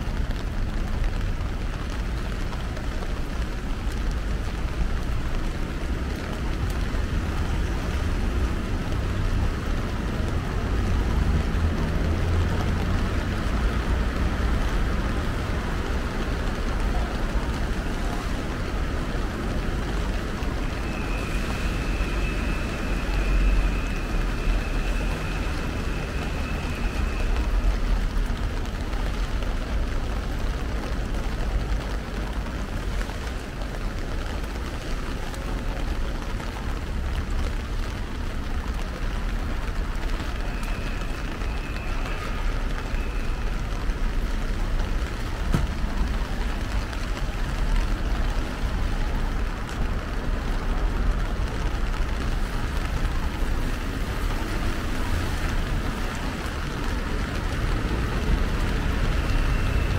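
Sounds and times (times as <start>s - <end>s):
heavy rain on an umbrella: 0.0s - 59.9s.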